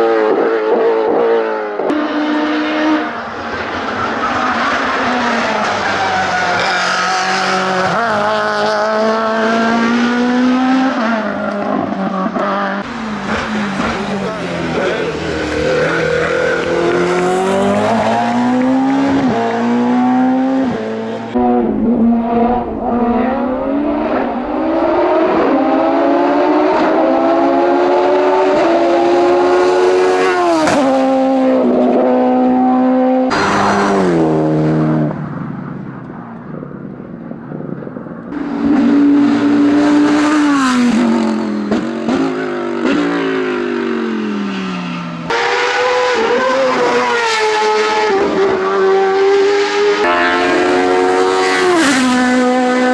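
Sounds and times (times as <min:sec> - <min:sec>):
race car engine at full throttle: 0:00.0 - 0:52.9.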